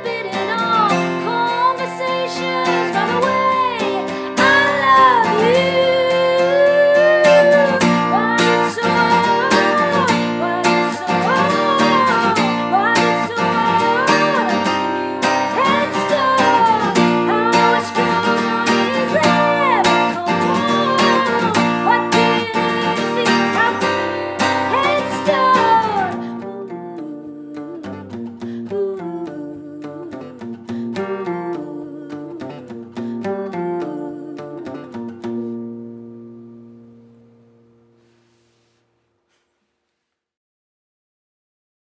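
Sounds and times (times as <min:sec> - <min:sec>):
acoustic guitar strumming: 0:00.0 - 0:38.7.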